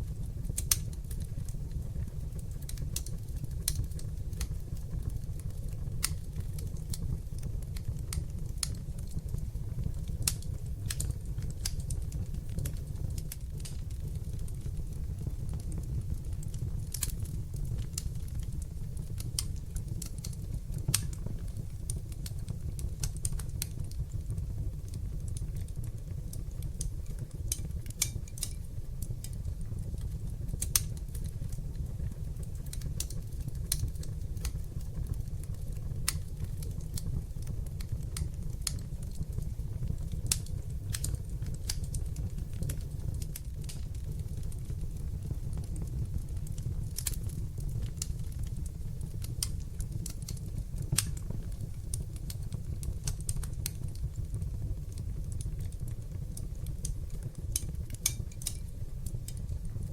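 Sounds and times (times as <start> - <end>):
fire crackling and popping: 0.0 - 59.9
wood fire rumbling: 0.0 - 59.9.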